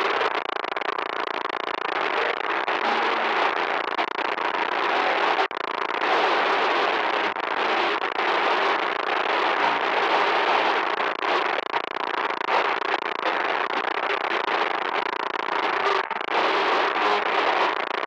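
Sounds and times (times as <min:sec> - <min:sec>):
loud crackling static: 0:00.0 - 0:18.0.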